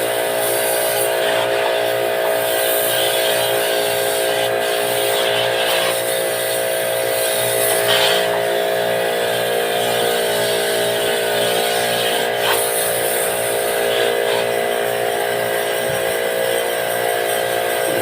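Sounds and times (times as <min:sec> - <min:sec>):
small motor humming: 0:00.0 - 0:18.0.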